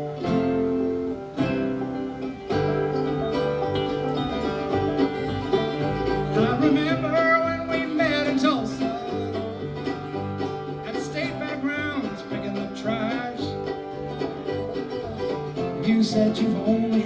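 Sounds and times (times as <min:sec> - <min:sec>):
banjo picking: 0:00.0 - 0:17.0
bluegrass band playing: 0:00.0 - 0:17.0
guitar picking: 0:00.0 - 0:17.0
sliding lead melody: 0:00.0 - 0:17.0.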